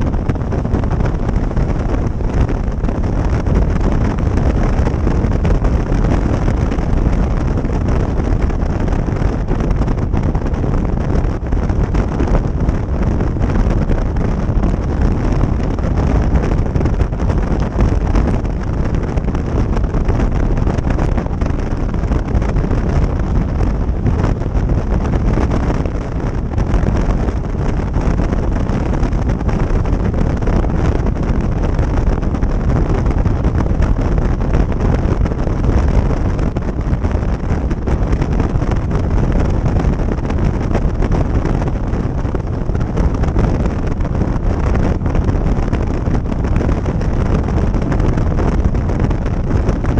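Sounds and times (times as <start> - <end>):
motorcycle and road noise: 0.0 - 49.9
wind rushing over microphone: 0.0 - 49.9.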